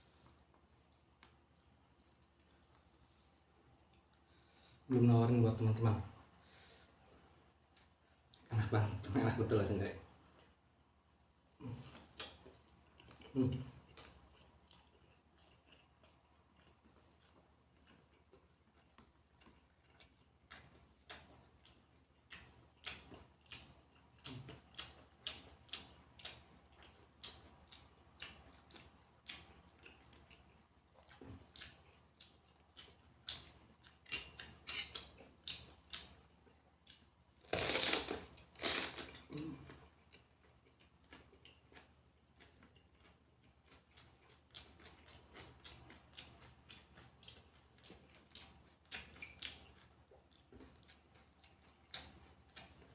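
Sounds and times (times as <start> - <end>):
chewing food: 0.0 - 4.8, 11.4 - 52.9.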